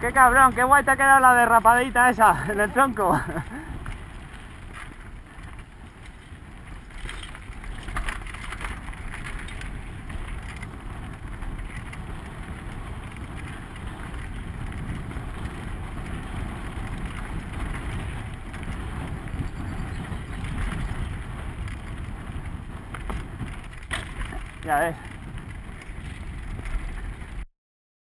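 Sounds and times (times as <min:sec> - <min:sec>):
wind rumble on microphone: 0:00.0 - 0:27.4
bike rattling over rough ground: 0:00.0 - 0:27.5
tyres on dirt trail: 0:00.0 - 0:27.5.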